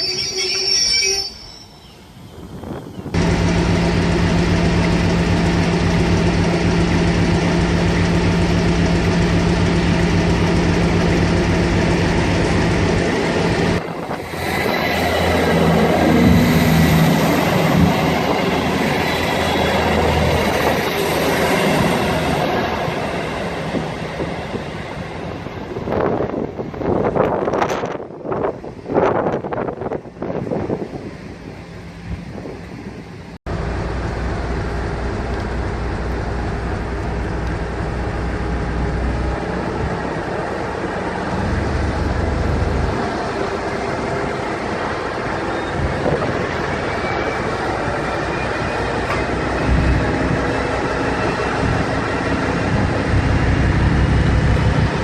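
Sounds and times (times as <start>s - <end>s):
train passing: 0.0s - 55.0s.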